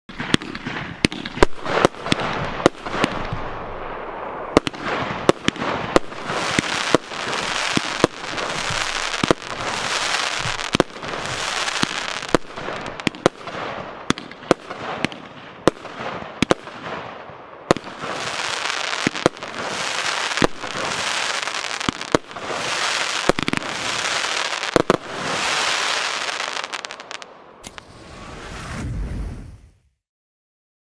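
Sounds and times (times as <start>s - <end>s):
firework launch cracks: 0.1s - 3.6s, 4.5s - 17.0s, 17.7s - 29.8s
hissing crackling firework stars: 0.1s - 29.8s.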